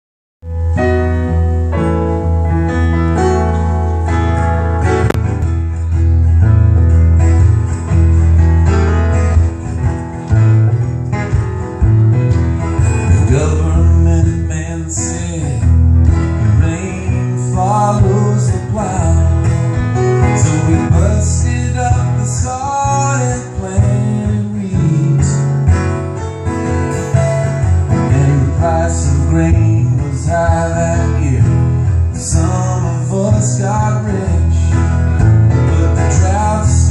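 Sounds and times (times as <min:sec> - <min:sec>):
acoustic guitar: 0:00.4 - 0:36.9
grand piano: 0:00.4 - 0:36.9.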